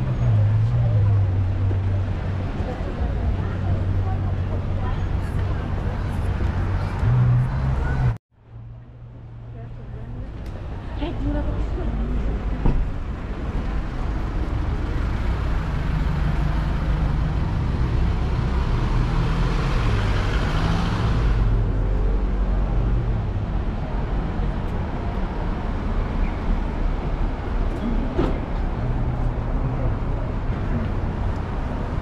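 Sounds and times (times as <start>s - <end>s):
road noise: 0.0s - 32.0s
vehicle engine rumble: 0.0s - 32.0s.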